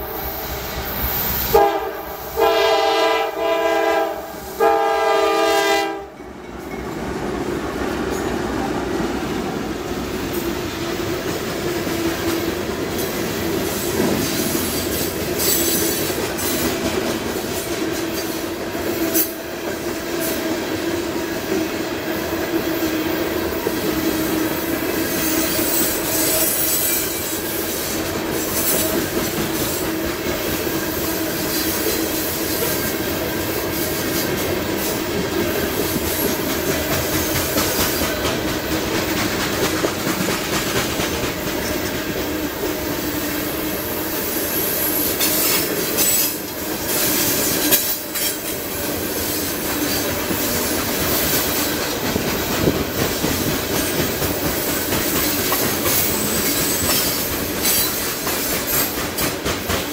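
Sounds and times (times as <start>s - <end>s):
freight train wheels clattering: 6.1s - 59.9s.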